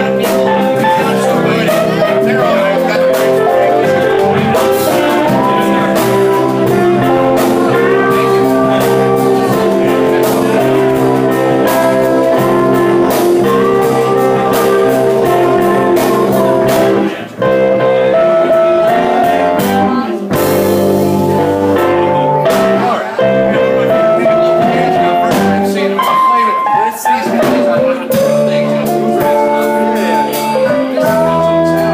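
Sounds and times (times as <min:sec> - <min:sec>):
live blues band playing: 0:00.0 - 0:31.9.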